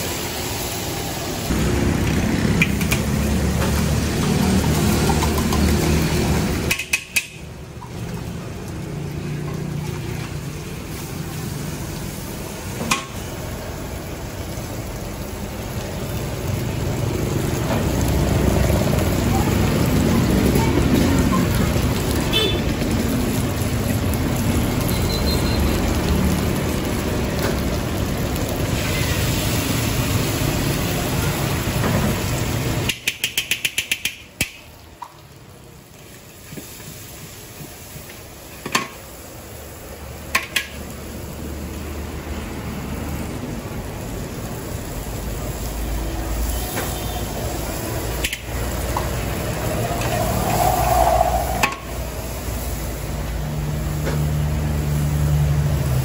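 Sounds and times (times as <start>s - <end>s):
liquid sizzling in hot wok: 0.0s - 56.0s.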